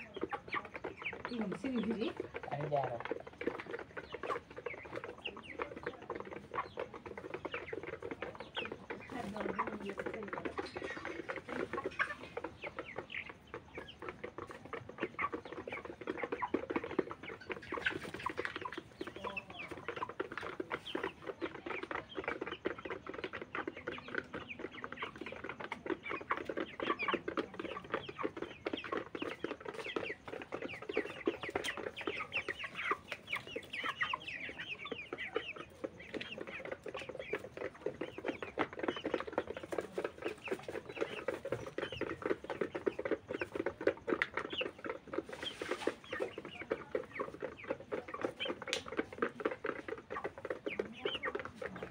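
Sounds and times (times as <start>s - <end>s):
chickens clucking and chirping: 0.0s - 51.9s
chickens pecking clicks: 0.0s - 51.9s.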